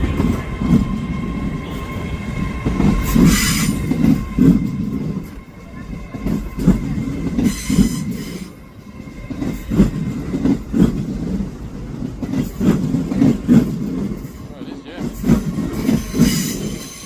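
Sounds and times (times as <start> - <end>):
train low rumble: 0.0 - 17.0
train wheels clunking over rail joints: 0.0 - 17.0.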